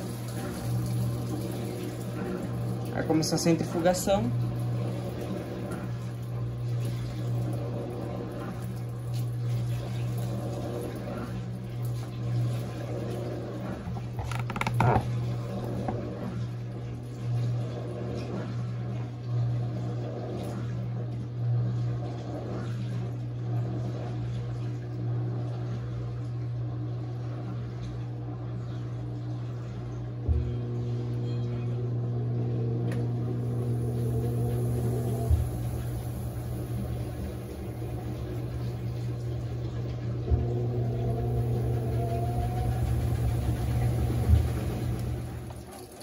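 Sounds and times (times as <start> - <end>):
washing machine spinning: 0.0 - 46.0
water noise: 0.0 - 46.0.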